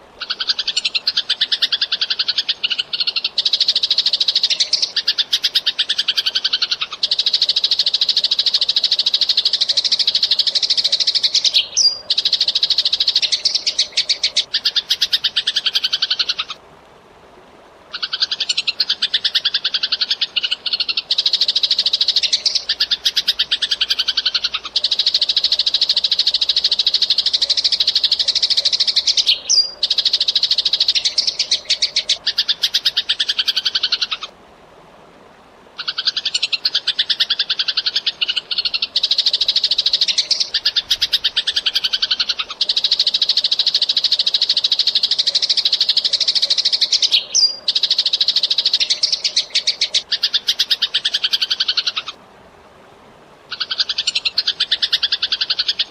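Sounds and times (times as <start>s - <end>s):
sparrow chattering: 0.2s - 16.6s, 18.0s - 34.3s, 35.8s - 52.2s, 53.5s - 55.9s.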